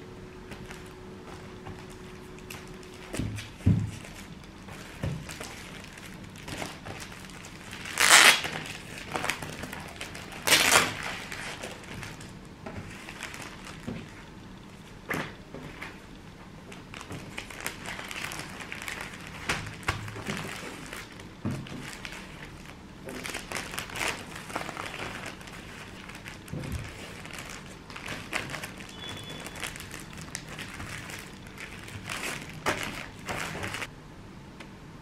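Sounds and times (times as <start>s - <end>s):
plastic and newspaper rustling: 0.5s - 33.9s.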